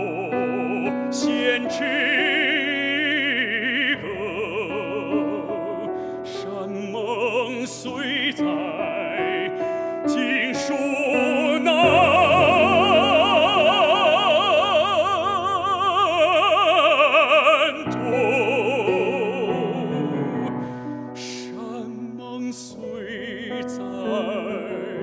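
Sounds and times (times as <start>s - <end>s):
man singing operatic baritone: 0.0s - 25.0s.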